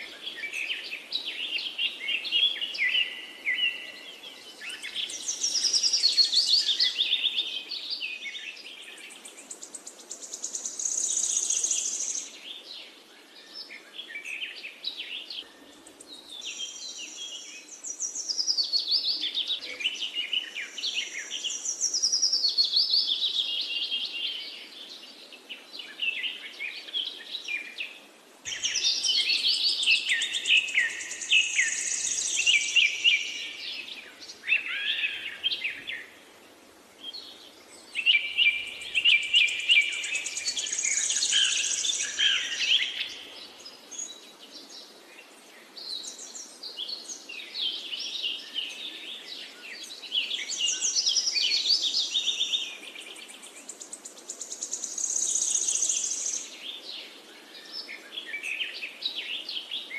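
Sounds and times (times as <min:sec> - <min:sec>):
faint steady hiss: 0:00.0 - 0:59.9
birds chirping and trilling: 0:00.1 - 0:36.3, 0:37.0 - 0:59.9.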